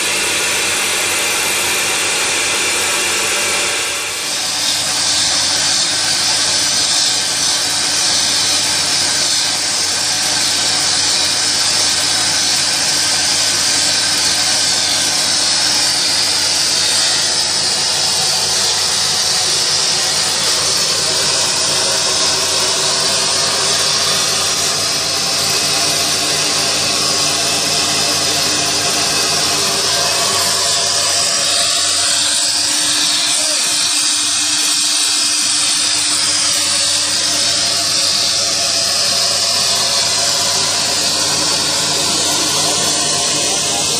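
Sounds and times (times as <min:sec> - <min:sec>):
plasma torch cutting steel pipe: 0:00.0 - 0:43.9.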